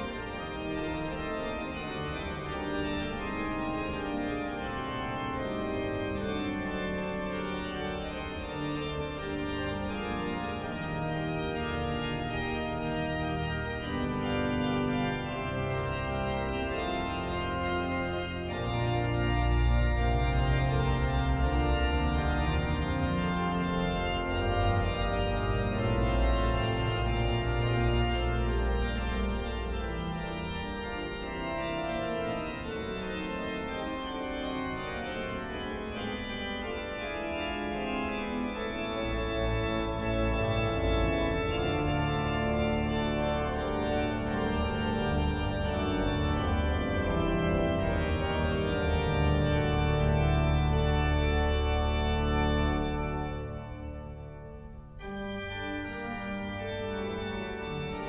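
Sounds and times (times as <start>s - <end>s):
church organ chords: 0.0s - 58.0s
deep organ bass pedal notes: 0.0s - 58.0s.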